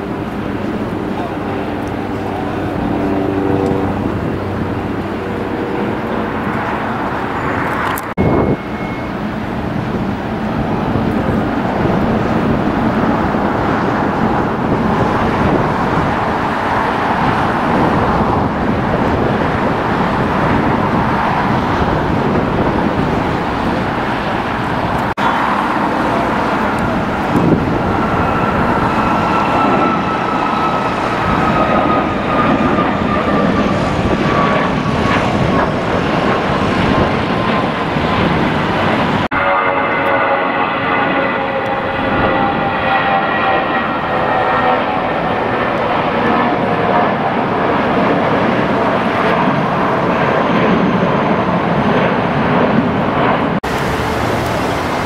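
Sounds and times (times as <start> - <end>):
jet engine whine: 0.0 - 55.0
jet engines roaring: 0.0 - 55.0.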